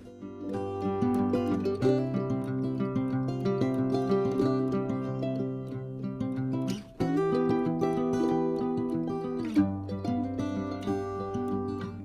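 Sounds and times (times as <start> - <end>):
plucked string melody: 0.0 - 12.0.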